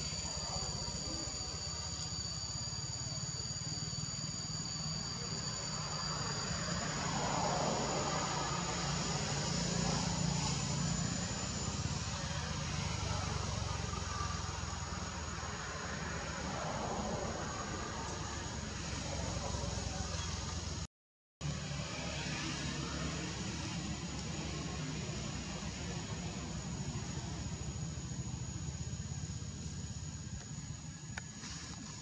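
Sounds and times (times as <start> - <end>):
shrill insect drone: 0.0 - 20.6, 21.5 - 32.0.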